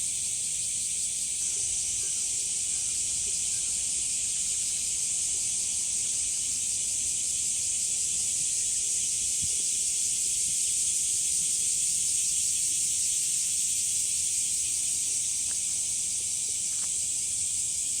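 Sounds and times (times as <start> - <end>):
cicadas calling in chorus: 0.0 - 18.0.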